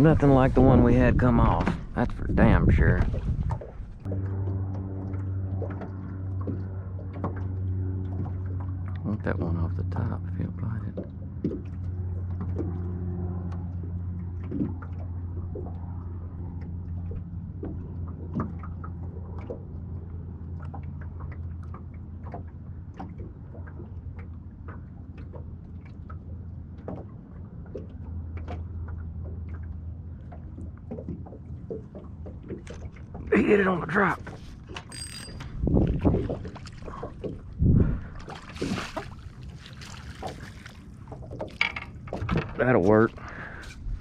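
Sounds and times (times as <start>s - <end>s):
electric trolling motor hum: 2.8s - 44.0s.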